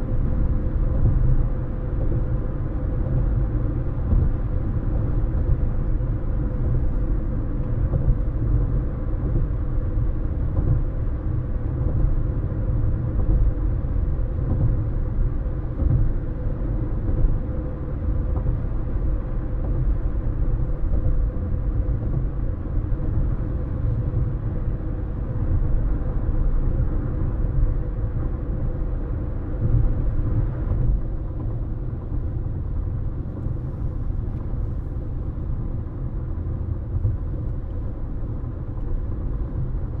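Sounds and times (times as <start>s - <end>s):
car tyres and engine rumble: 0.0s - 40.0s.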